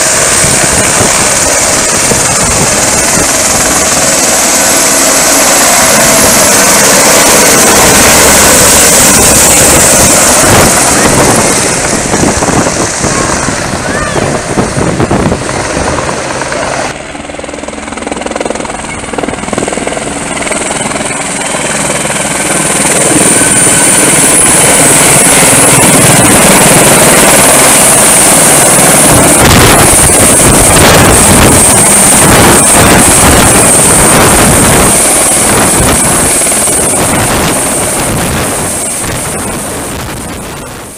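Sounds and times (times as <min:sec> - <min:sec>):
helicopter rotor blades beating: 0:00.0 - 0:40.9
helicopter turbine whine: 0:00.0 - 0:40.9.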